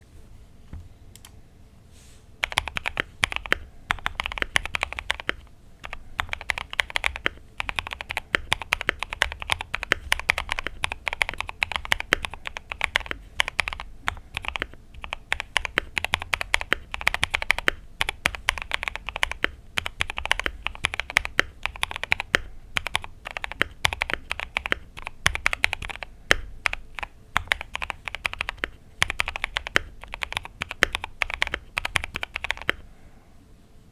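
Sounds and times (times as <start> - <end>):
mechanical keyboard typing: 2.4 - 32.8.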